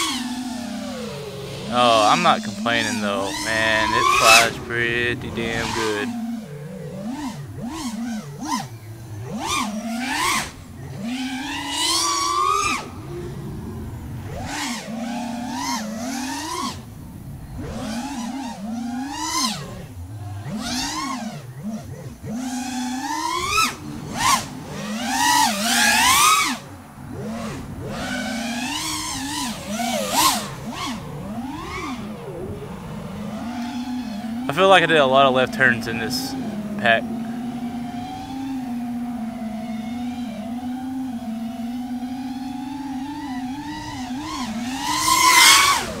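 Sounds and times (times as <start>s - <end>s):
quadcopter motors whining: 0.0s - 46.0s.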